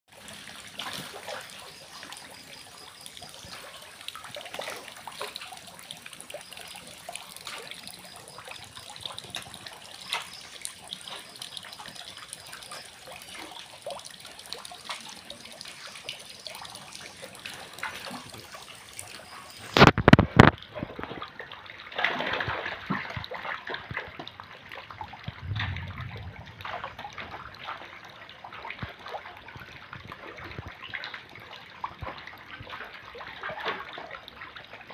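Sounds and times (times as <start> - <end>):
water pouring into tank: 0.1 - 34.9.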